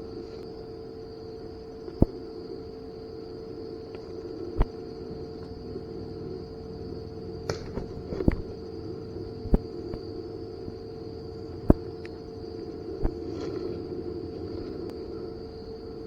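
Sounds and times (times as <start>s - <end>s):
background hum: 0.0s - 16.0s
high even whine: 0.0s - 16.0s.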